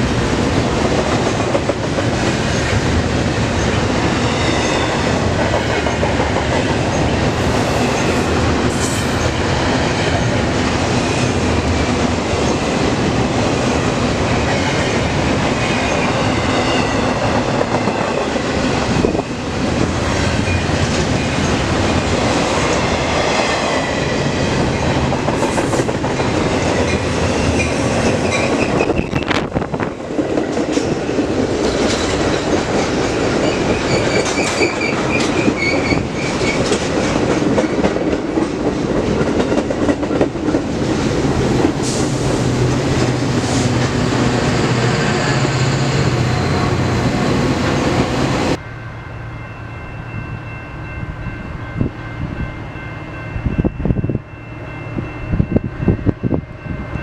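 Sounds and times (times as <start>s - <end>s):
train wheels on rails: 0.0s - 48.6s.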